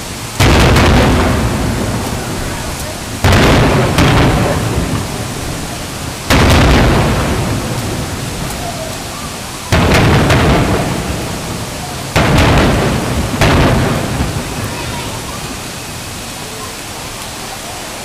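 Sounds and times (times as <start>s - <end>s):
firework shells booming: 0.0s - 16.2s
rolling rumble: 0.0s - 17.3s.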